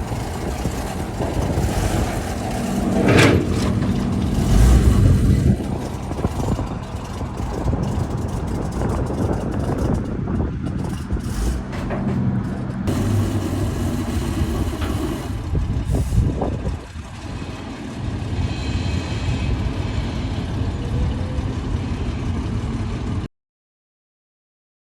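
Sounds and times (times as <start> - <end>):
truck engine running: 0.0 - 23.3.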